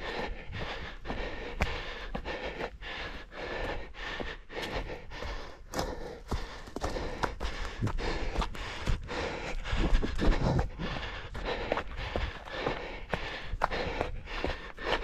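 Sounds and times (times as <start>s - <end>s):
runner panting hard: 0.0s - 15.0s.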